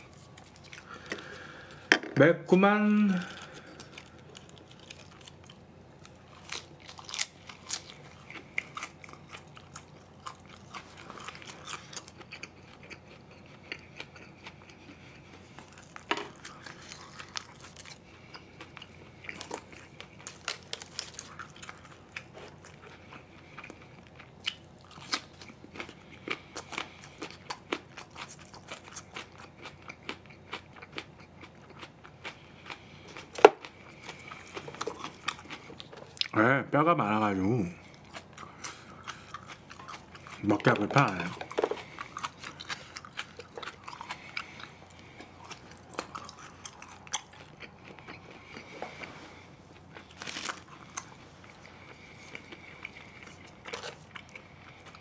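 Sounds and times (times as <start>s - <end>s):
chewing and biting ribs: 3.2s - 36.4s, 37.7s - 55.0s.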